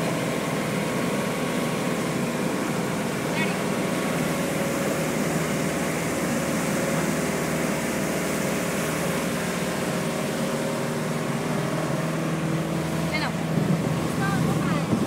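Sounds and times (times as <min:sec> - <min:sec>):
speedboat engine: 0:00.0 - 0:15.0
wind and water rushing: 0:00.0 - 0:15.0.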